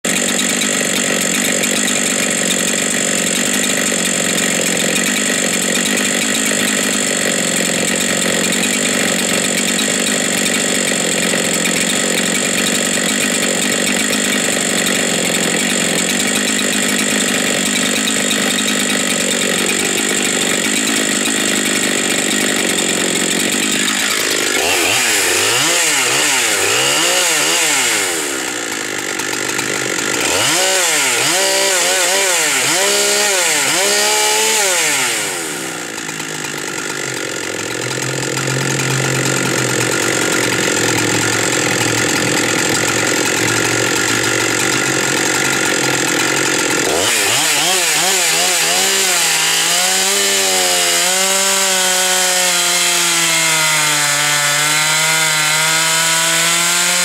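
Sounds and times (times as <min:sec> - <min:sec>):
chainsaw engine idling and revving: 0:00.0 - 0:57.0.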